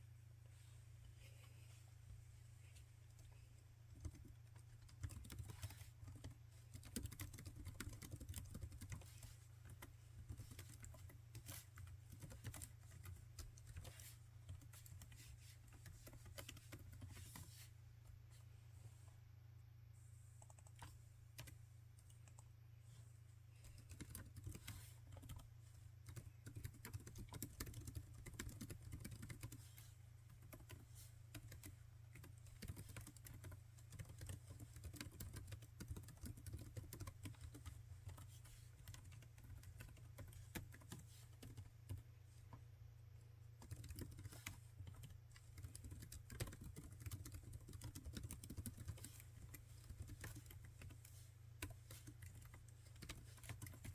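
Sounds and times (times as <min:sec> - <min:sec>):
faint low hum: 0:00.0 - 0:53.9
laptop keyboard typing: 0:03.9 - 0:17.2, 0:20.4 - 0:22.5, 0:23.7 - 0:42.0, 0:43.6 - 0:53.9.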